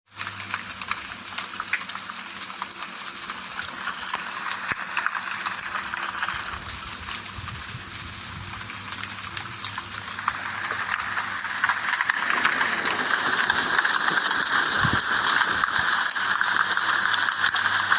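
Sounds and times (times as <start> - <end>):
steady rain hissing: 0.1 - 17.9.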